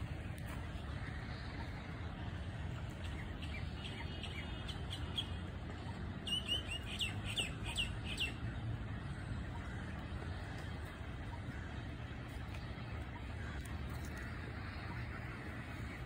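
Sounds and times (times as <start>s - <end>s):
steady low rumble: 0.0s - 16.0s
bird calling: 2.8s - 16.0s.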